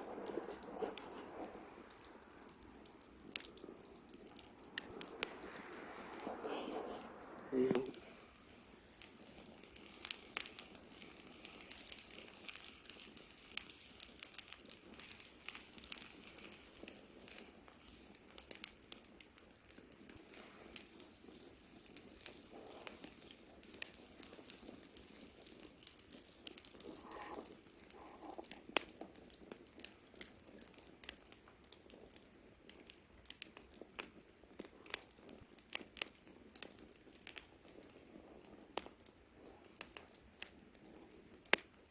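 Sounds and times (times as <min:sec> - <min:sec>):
campfire pops and snaps: 0:00.0 - 0:41.9
fire hissing: 0:00.0 - 0:41.9.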